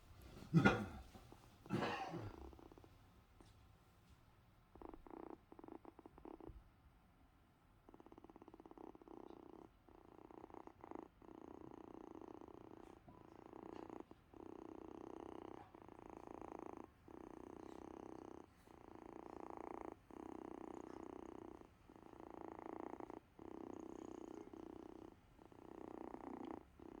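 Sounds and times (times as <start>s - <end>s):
kitten purring: 0.0s - 3.8s, 4.6s - 27.0s.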